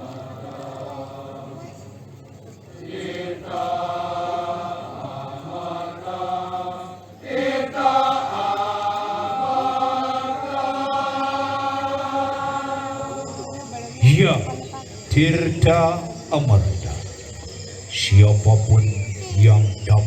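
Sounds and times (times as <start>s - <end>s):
voices chanting long notes: 0.0s - 20.0s.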